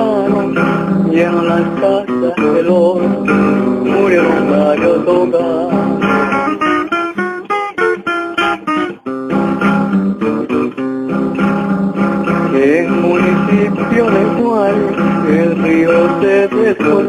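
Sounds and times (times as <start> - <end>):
plucked guitar: 0.0 - 17.0.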